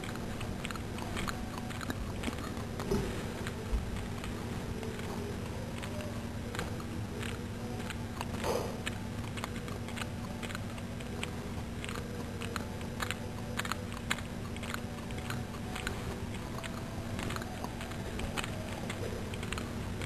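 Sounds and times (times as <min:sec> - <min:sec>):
cat lapping milk: 0:00.0 - 0:20.0
steady low hum: 0:00.0 - 0:20.0.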